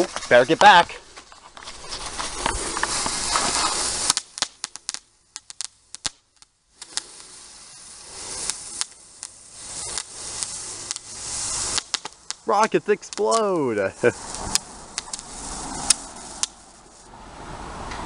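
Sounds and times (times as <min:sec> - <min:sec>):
firework cracking pops: 0:00.0 - 0:17.1
firework hissing: 0:00.0 - 0:17.9.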